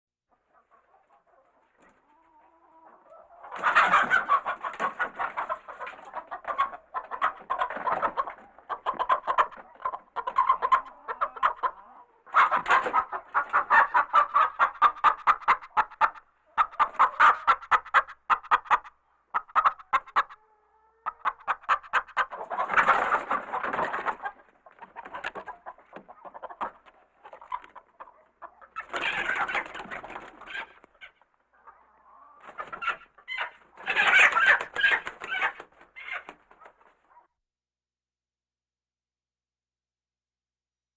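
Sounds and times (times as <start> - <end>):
chickens clucking and cackling: 0.3 - 37.3.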